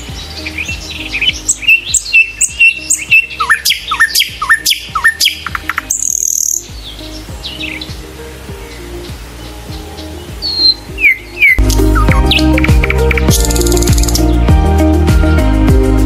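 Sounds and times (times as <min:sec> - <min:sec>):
birds chirping and calling: 0:00.0 - 0:14.5.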